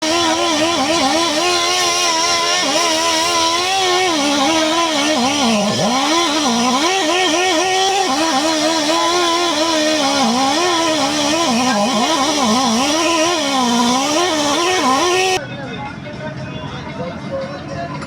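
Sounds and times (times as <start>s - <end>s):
engine revving: 0.0s - 15.4s.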